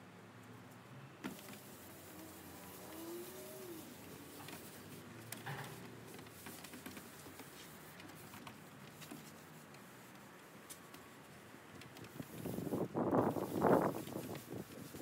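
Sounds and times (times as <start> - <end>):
gloved hands rustling on wood: 1.3 - 15.0
rubbing on wood: 1.3 - 15.0.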